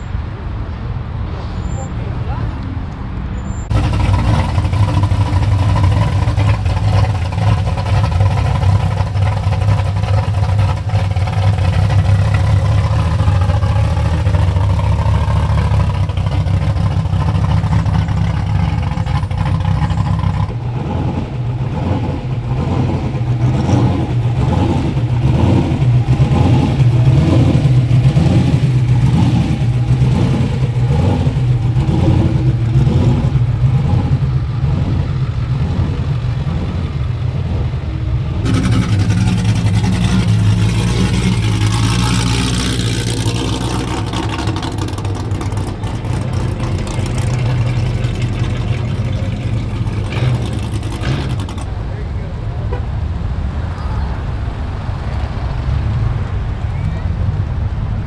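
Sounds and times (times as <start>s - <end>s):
car engine rumbling: 0.0s - 58.0s
drag car engine pulsing exhaust: 1.5s - 58.0s.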